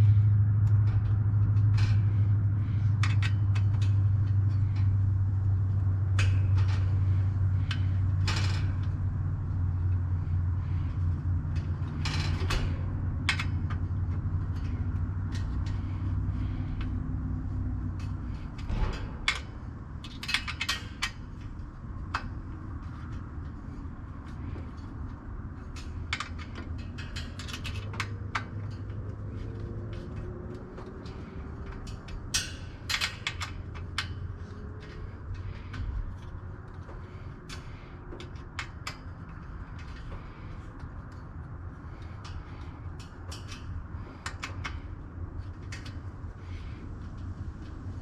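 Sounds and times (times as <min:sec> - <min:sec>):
steady low hum: 0:00.0 - 0:48.0
hardware clicking and rattling: 0:00.6 - 0:48.0.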